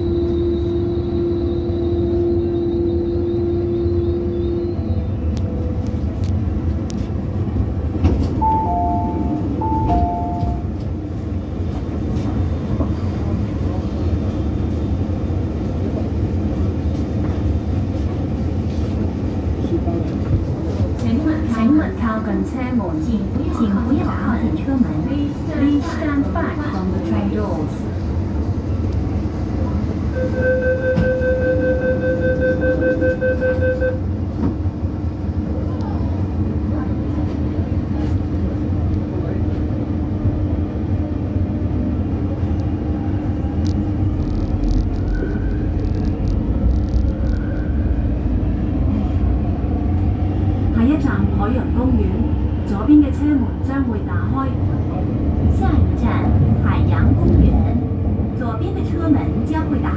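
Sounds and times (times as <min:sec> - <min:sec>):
train low hum: 0:00.0 - 0:59.9.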